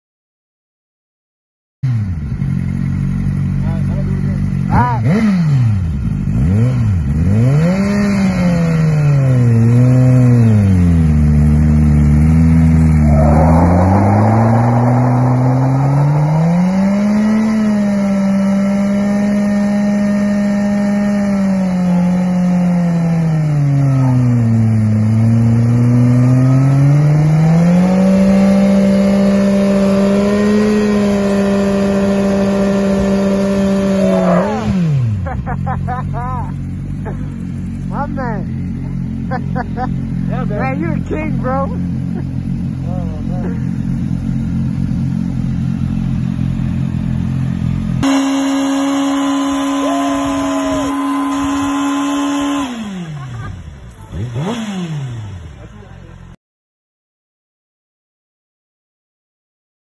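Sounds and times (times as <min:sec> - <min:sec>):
motorcycle engine revving: 0:01.8 - 0:56.4.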